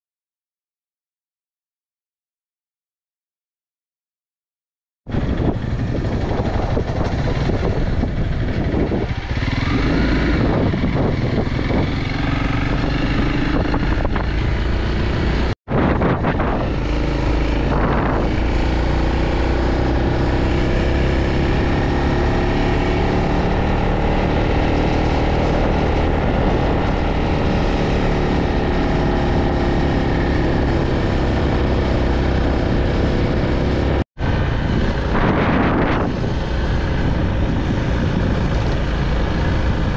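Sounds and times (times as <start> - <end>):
motorcycle engine running: 5.1 - 39.9
wind noise on microphone: 5.1 - 39.9.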